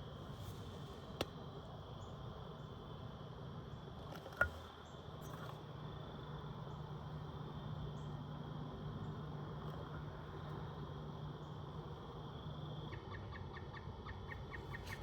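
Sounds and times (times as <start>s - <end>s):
insects chirring: 0.0s - 15.0s
low steady hum: 0.0s - 15.0s.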